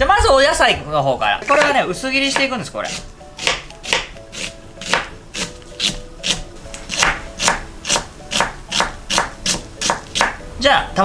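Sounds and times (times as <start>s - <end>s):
knife slicing onion on board: 1.4s - 10.4s.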